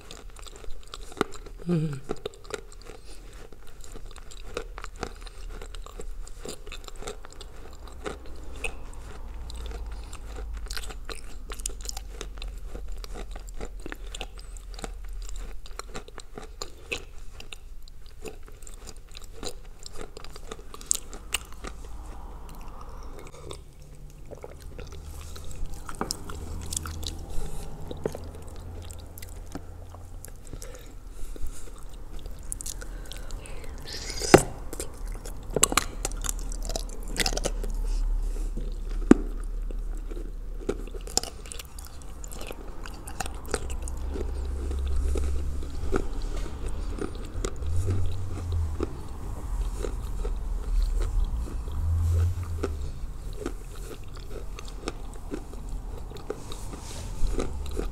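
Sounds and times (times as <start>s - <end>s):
person chewing crunchy clay: 0.0s - 57.9s.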